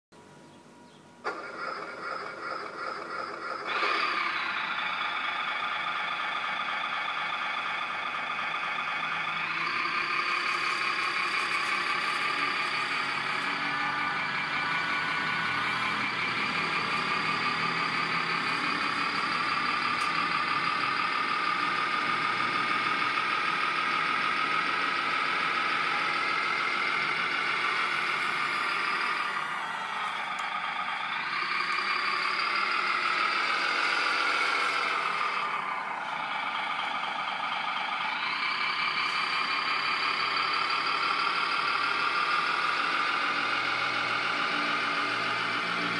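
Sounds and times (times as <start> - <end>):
toy wheel loader mechanical whine: 1.2 - 45.9.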